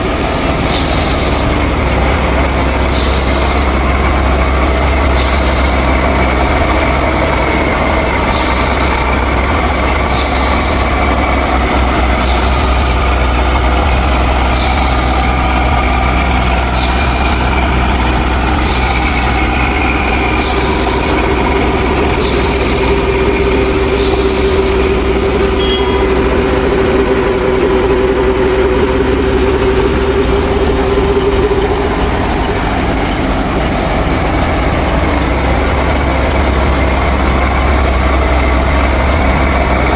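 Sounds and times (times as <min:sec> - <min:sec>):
steady tone: 0:00.0 - 0:39.9
tractor and thresher humming: 0:00.0 - 0:39.9.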